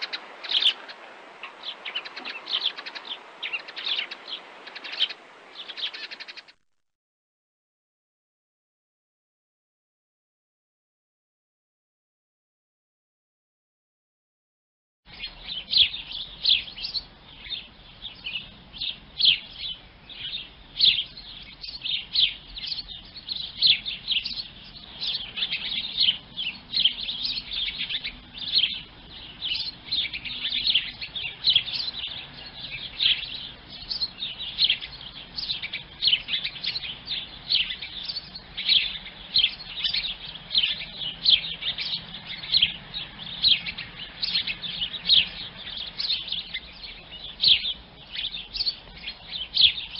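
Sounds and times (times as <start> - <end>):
sparrows chirping: 0.0 - 6.6, 15.1 - 49.9.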